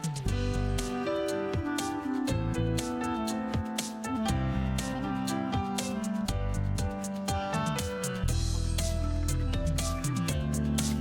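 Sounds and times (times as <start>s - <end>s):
held melodic notes over a beat: 0.0s - 11.0s.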